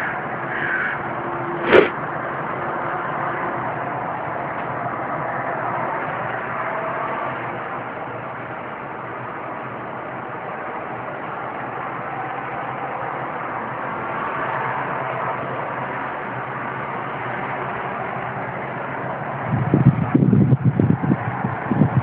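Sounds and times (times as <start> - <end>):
background hum and hiss: 0.0 - 22.0.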